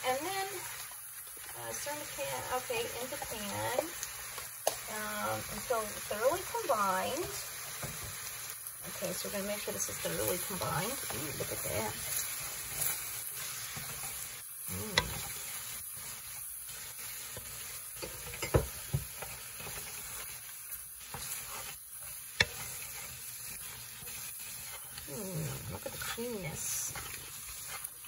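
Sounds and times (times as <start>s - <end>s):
sauce sizzling in a pan: 0.0s - 28.0s.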